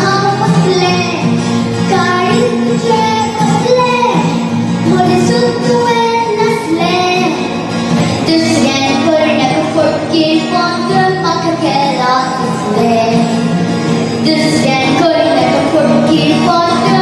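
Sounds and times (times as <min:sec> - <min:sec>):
girl singing: 0:00.0 - 0:13.4, 0:14.2 - 0:17.0.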